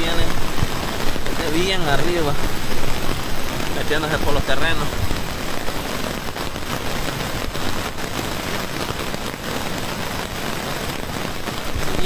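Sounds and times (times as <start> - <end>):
floodwater rushing: 0.0 - 12.0
heavy rain falling: 0.0 - 12.0.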